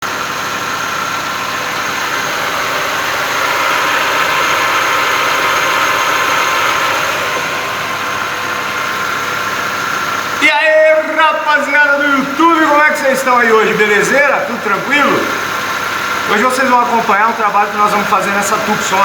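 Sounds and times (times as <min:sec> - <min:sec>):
car engine idling: 0:00.0 - 0:19.0
thin steady whine: 0:00.6 - 0:19.0.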